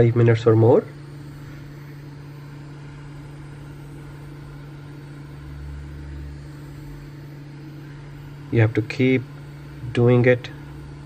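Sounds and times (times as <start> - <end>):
hot air gun blower humming: 0.0 - 11.0.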